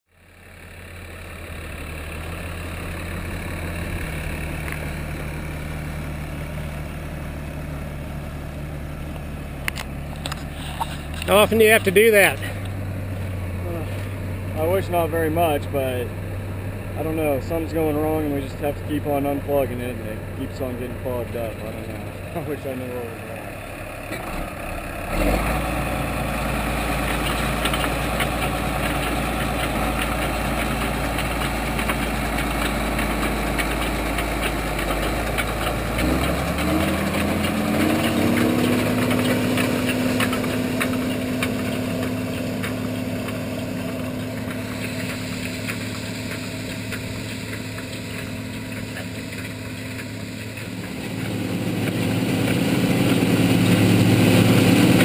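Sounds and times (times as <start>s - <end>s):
tractor diesel engine revving: 0.1s - 55.0s.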